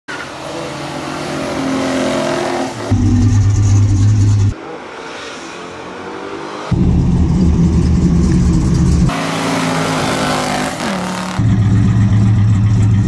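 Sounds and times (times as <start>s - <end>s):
car engines accelerating: 0.1s - 13.0s.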